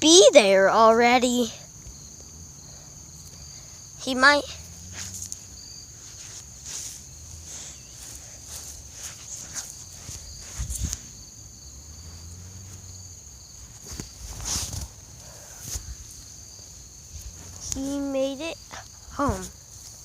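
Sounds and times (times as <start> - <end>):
crickets chirping: 0.0 - 20.0
rustling footsteps: 3.2 - 20.0.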